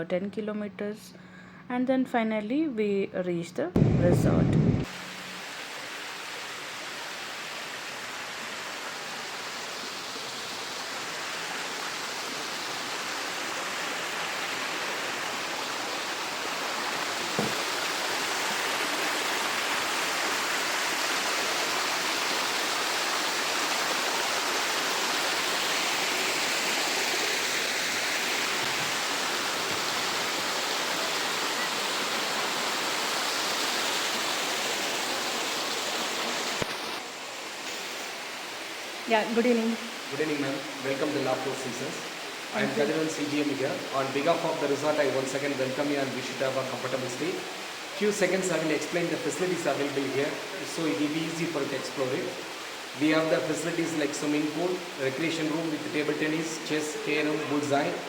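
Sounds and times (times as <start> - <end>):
flowing water rushing: 4.8 - 58.0.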